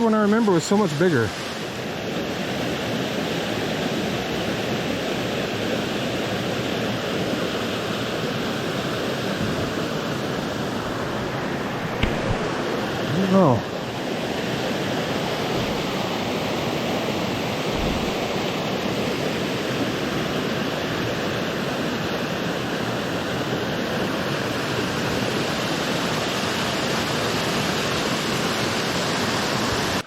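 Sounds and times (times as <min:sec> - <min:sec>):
small waterfall rushing: 0:00.0 - 0:30.0.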